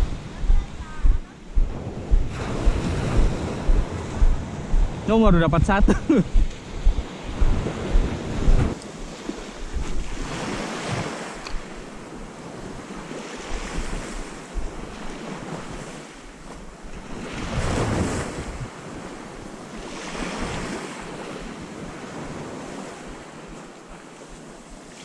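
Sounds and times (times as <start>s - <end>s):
wind buffeting microphone: 0.0s - 23.6s
sea waves washing on shore: 0.0s - 25.0s.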